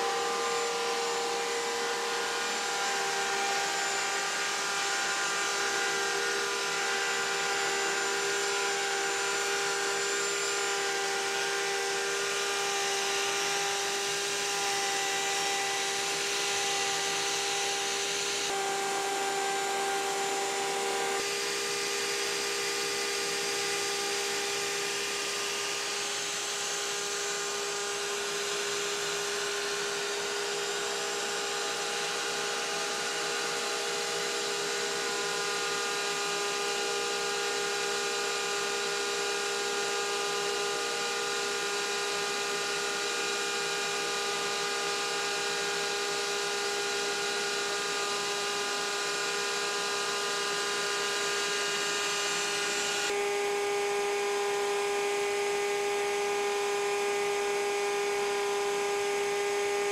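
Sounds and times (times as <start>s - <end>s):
wood router motor whine: 0.0s - 59.9s.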